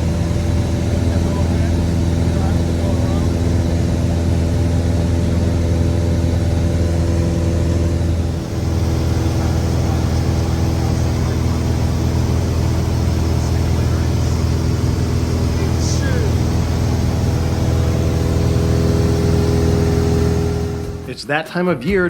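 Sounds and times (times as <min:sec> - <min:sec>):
propeller plane engine droning: 0:00.0 - 0:21.2.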